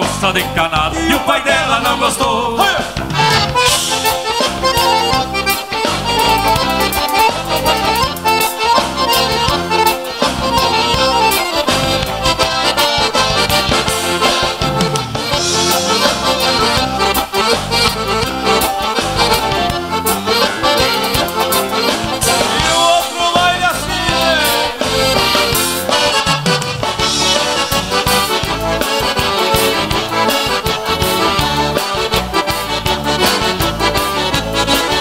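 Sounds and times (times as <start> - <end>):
accordions playing melody: 0.0 - 35.0
bass guitar: 0.0 - 35.0
drum kit beat: 0.0 - 35.0
electric guitar: 0.0 - 35.0.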